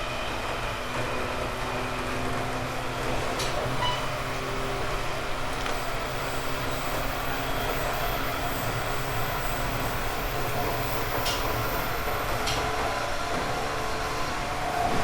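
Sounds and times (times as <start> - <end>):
train wheels on rails: 0.0 - 15.0
traction motors humming: 0.3 - 14.9.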